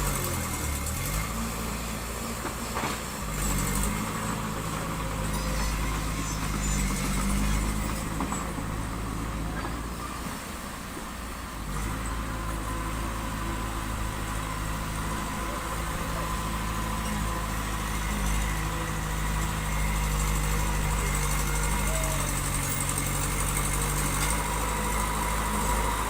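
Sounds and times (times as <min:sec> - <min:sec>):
heavy diesel engine revving: 0:00.0 - 0:26.0.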